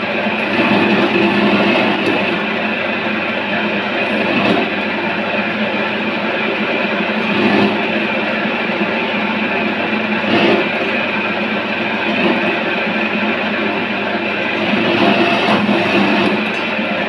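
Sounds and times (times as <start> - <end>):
cutting machine running: 0.0 - 17.0.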